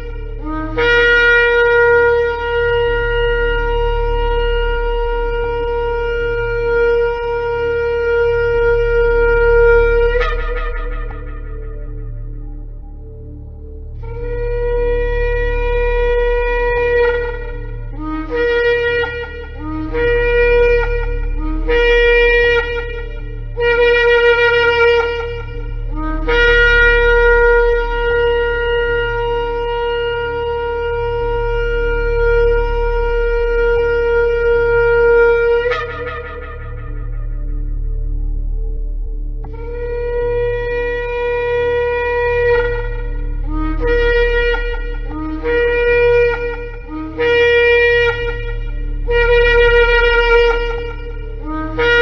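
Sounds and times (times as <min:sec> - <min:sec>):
low hum: 0:00.0 - 0:52.0
ram's-horn trumpet blasts: 0:00.0 - 0:52.0.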